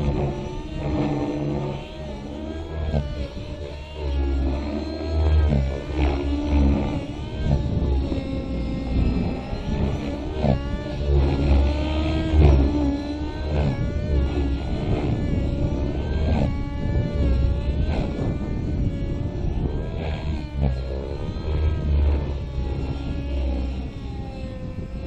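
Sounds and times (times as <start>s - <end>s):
rc helicopter engine running hard: 0.0s - 25.0s.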